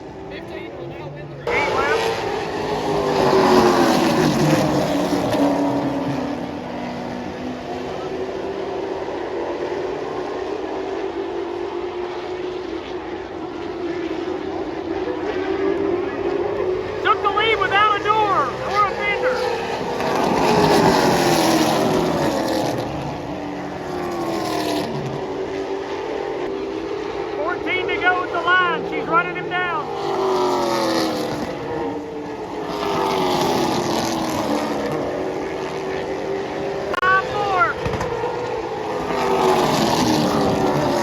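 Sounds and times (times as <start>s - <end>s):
race car engines: 0.0s - 41.0s.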